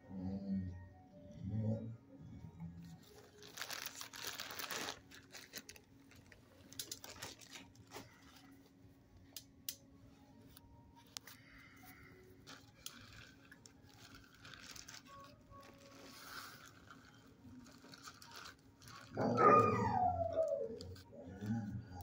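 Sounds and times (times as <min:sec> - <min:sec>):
faint steady hum: 0:00.0 - 0:22.0
rustling and crinkling: 0:02.8 - 0:09.4, 0:10.1 - 0:22.0.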